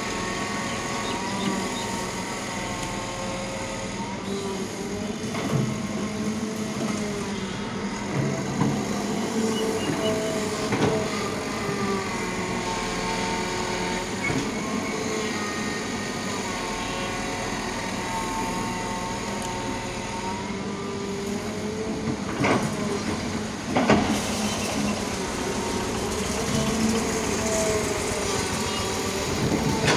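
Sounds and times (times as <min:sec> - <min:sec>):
excavator engine with whine: 0:00.0 - 0:29.9.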